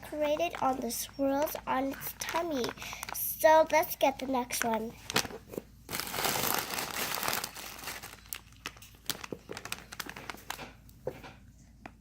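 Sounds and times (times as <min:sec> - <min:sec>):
crinkly packaging being opened: 0:00.0 - 0:10.8.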